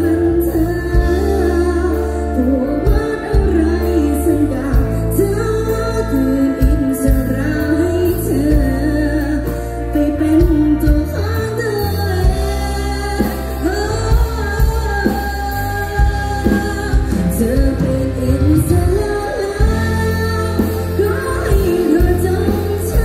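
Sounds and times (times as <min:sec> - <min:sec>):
electric guitar: 0:00.0 - 0:23.0
woman singing into a microphone: 0:00.0 - 0:23.0.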